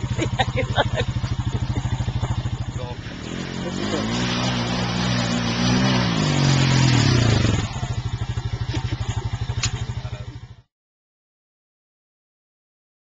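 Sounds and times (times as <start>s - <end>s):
atv engine running: 0.0s - 10.7s.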